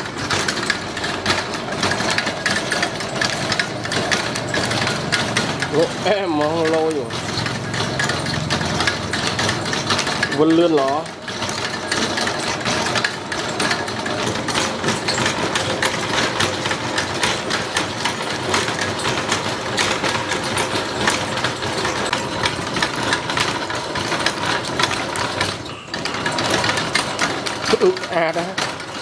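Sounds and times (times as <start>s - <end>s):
gearbox clattering: 0.0s - 29.0s.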